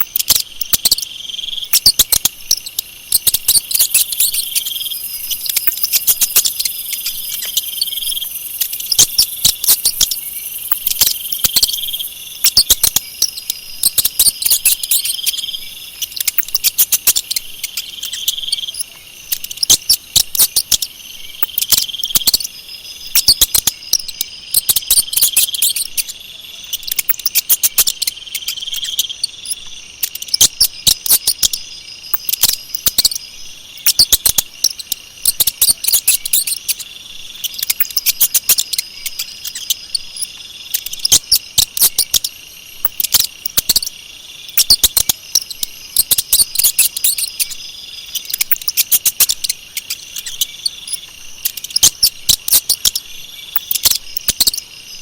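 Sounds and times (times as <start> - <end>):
mouse squeaking: 0.0 - 33.2, 33.8 - 36.8, 37.4 - 43.9, 44.5 - 54.6.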